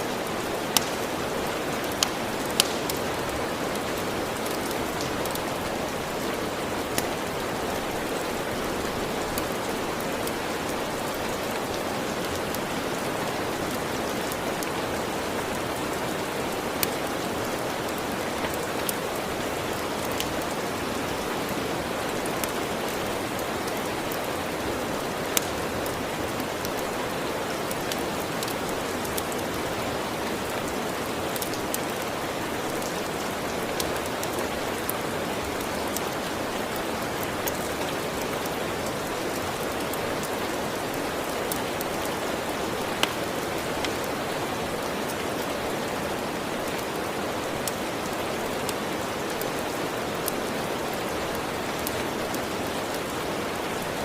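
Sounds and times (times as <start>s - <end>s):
dense rain: 0.0s - 54.0s.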